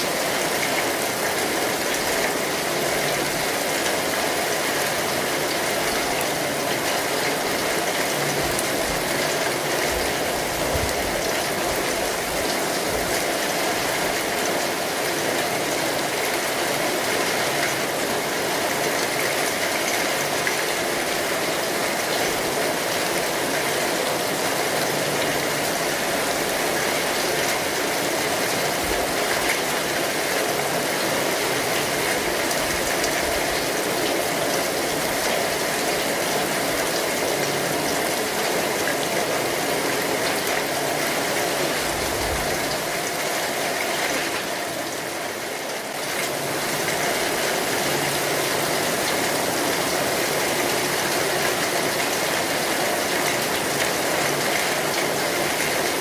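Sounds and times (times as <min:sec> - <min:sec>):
rain pattering on an umbrella: 0:00.0 - 0:56.0.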